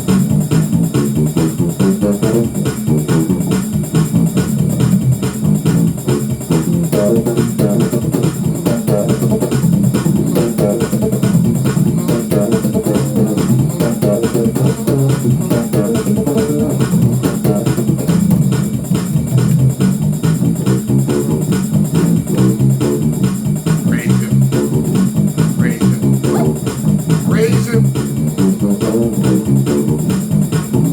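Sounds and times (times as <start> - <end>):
electric bass guitar runs: 0.0 - 30.9.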